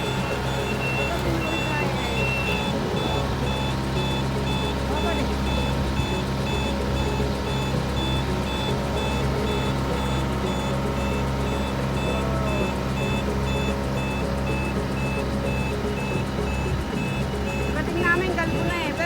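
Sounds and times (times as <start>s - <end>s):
electronic warning beeper: 0.0s - 19.0s
harvester engine running: 0.0s - 19.0s.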